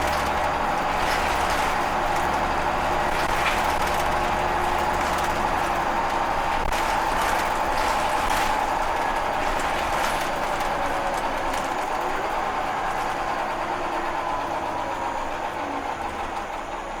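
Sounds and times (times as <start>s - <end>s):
bus engine whine from inside: 0.0s - 17.0s
rattles inside bus: 0.0s - 17.0s.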